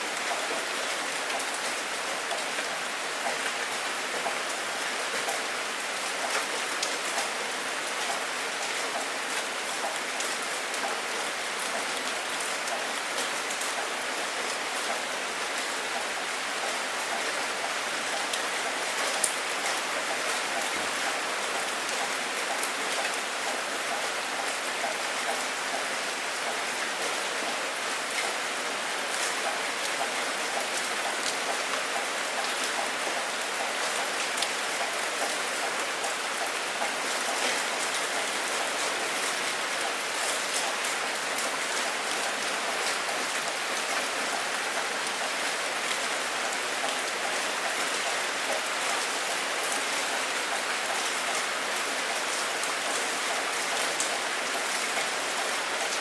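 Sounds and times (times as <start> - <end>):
heavy rain falling: 0.0 - 56.0
raindrops pattering on a surface: 0.1 - 56.0.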